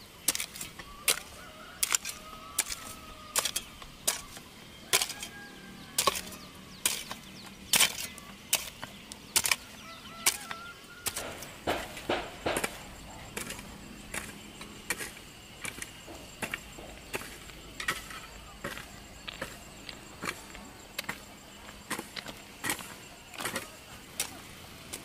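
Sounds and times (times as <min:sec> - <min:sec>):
hoe chopping stony soil: 0:00.1 - 0:25.0
faint bird calls: 0:00.6 - 0:21.6.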